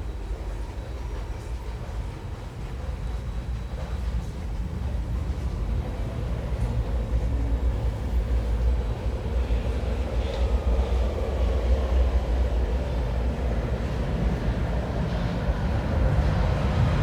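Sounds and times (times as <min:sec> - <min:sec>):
underground train rumbling: 0:00.0 - 0:17.0.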